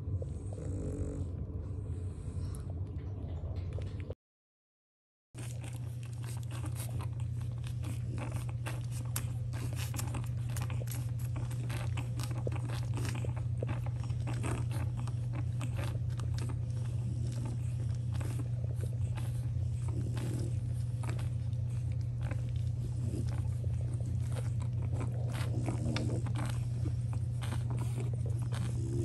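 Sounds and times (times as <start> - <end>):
steady low hum: 0.0 - 4.2, 5.4 - 29.0
puppies suckling: 5.4 - 29.0.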